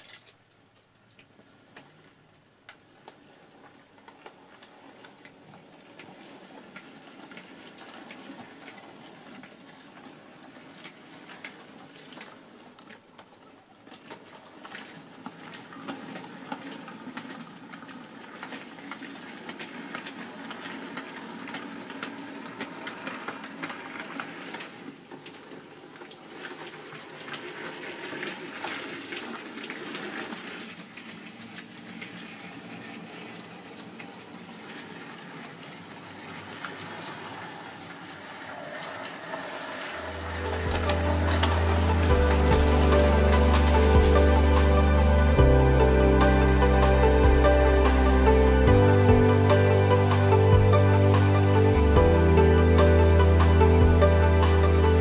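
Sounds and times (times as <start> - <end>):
wheels clicking over rail joints: 0.0 - 55.0
model train running on track: 3.0 - 55.0.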